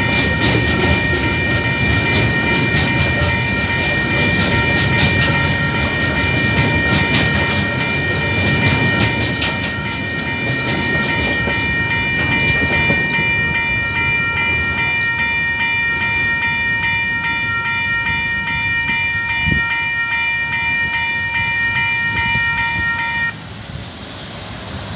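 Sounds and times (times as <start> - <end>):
level crossing warning bell: 0.0 - 23.4.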